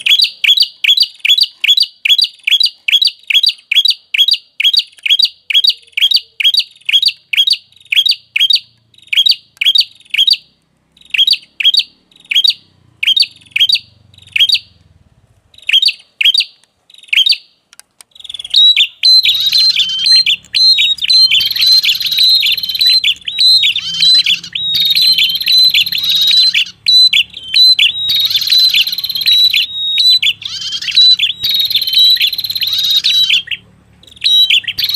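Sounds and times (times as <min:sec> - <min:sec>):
bird chattering song: 0:00.0 - 0:14.8, 0:15.5 - 0:34.9
songbird chirping: 0:00.0 - 0:34.9.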